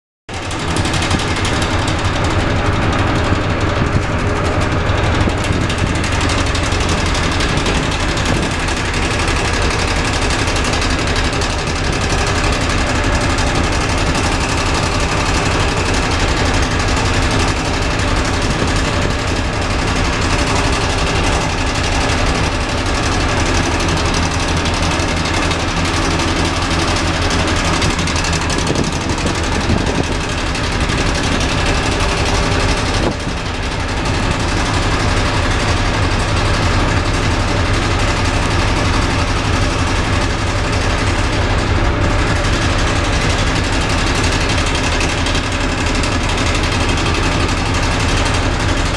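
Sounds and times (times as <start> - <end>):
ship engine low hum: 0.3 - 48.9
bench seats buzzing rattle: 0.4 - 48.9.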